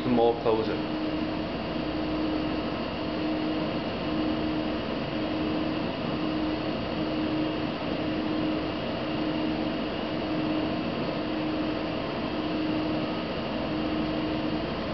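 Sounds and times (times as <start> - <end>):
machine hum and hiss: 0.0 - 14.9
pulsing low hum: 0.0 - 14.9.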